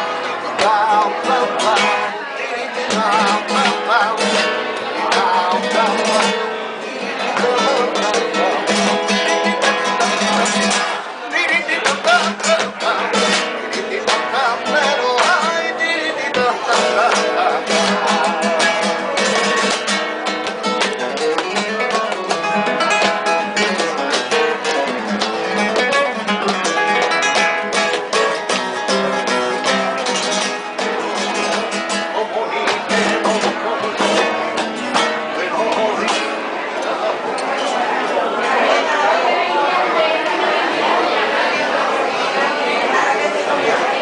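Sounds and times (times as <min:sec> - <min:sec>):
man singing flamenco: 0:00.0 - 0:37.2
flamenco guitar playing: 0:00.0 - 0:39.4.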